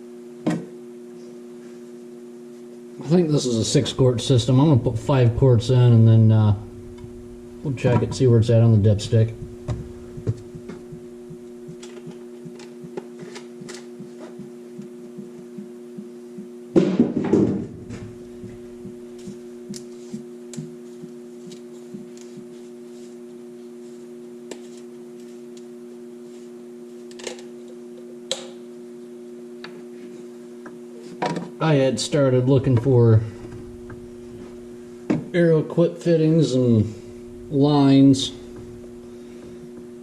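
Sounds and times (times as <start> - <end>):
mechanical electrical hum: 0.0 - 40.0.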